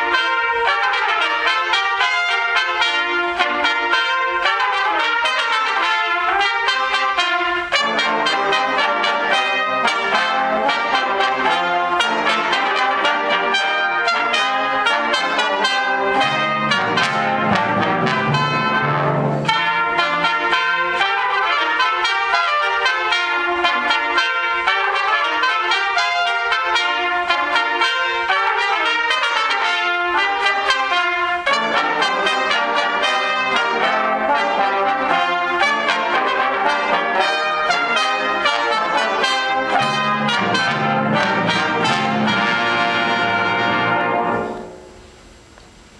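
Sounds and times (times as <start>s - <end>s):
brass ensemble playing: 0.0s - 45.9s.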